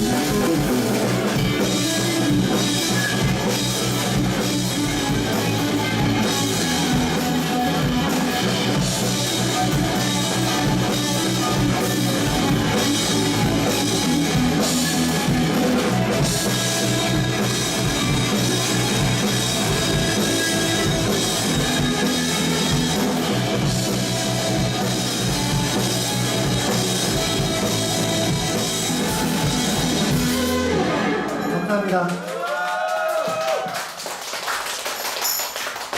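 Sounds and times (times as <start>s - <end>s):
bass guitar: 0.0s - 32.0s
pounding drum kit: 0.0s - 32.1s
distorted electric guitars: 0.0s - 32.2s.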